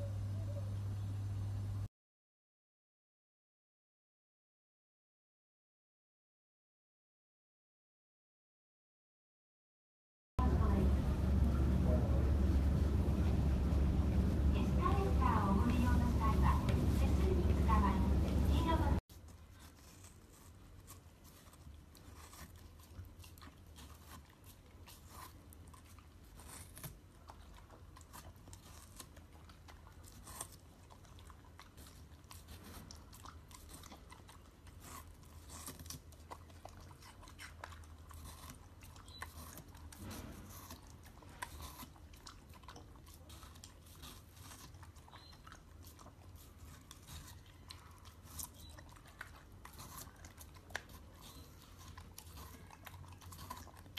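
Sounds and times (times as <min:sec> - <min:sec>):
faint low hum: 0:00.0 - 0:01.9, 0:10.4 - 0:53.9
dog chewing watermelon: 0:10.4 - 0:53.9.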